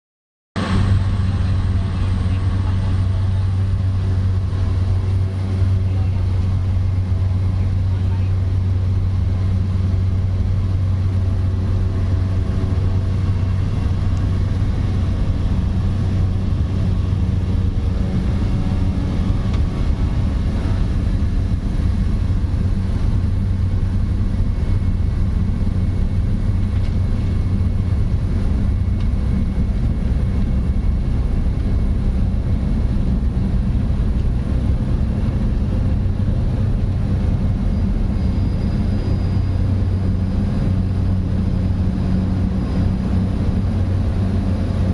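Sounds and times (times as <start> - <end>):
propeller plane engine drone: 0.6 - 44.9.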